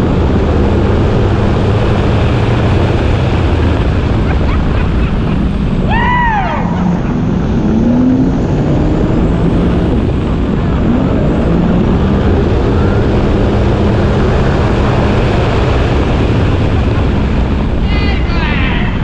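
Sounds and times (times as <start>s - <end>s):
jet ski engine drone: 0.0s - 19.0s
rush of wind and water: 0.0s - 19.0s.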